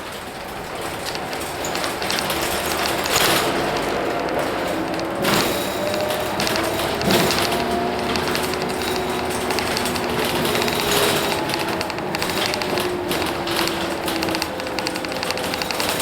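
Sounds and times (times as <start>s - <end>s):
bus diesel engine clattering: 0.0s - 16.0s.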